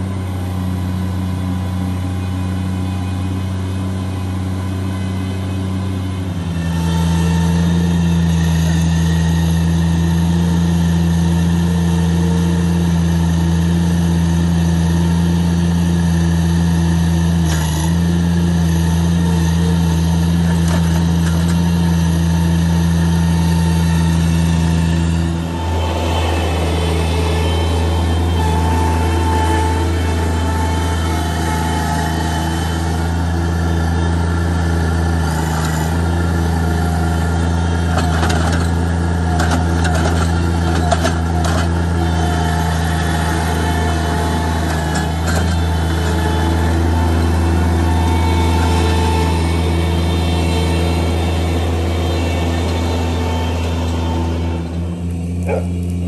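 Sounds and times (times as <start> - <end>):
mini loader engine running: 0.0 - 56.0.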